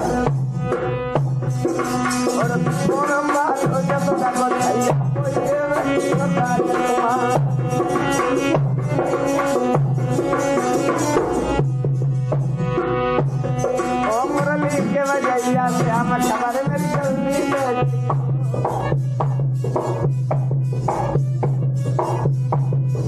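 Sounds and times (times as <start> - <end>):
folk melody line: 0.0 - 23.0
hand drum beat: 0.0 - 23.0
rattle percussion: 0.0 - 23.0.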